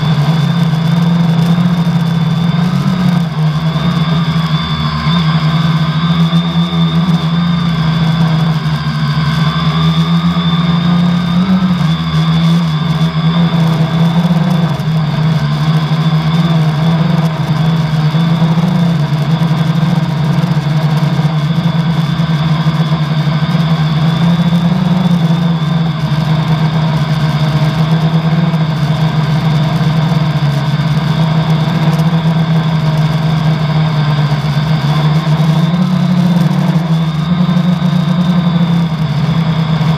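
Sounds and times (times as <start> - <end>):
quadcopter motors droning with whine: 0.0 - 39.9.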